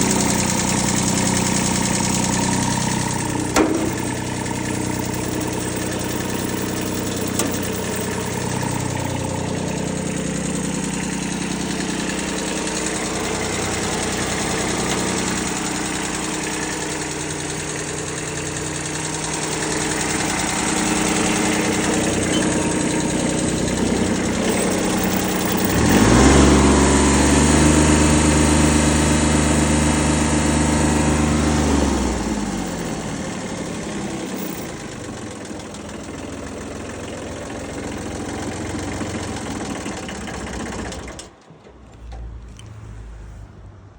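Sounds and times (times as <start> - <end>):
tractor diesel engine idling and revving: 0.0 - 43.9.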